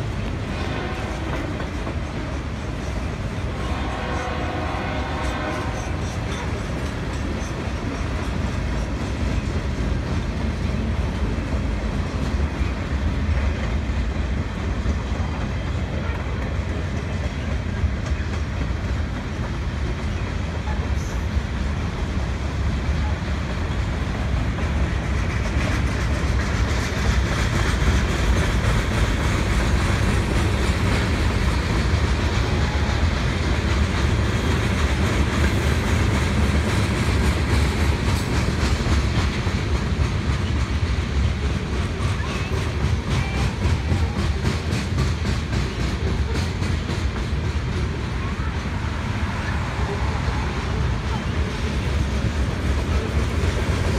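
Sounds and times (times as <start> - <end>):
freight train wheels rumbling on rails: 0.0 - 53.9.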